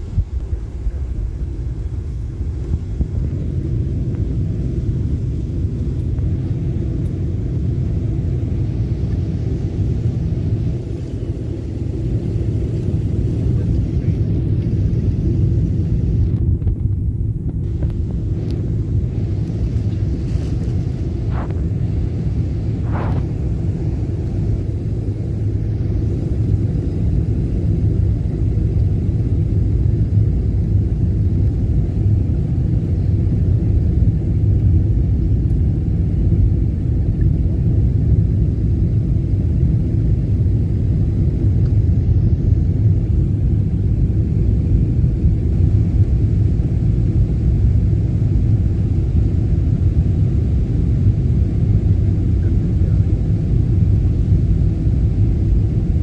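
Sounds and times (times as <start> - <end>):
jet cabin engine rumble: 0.0 - 56.0.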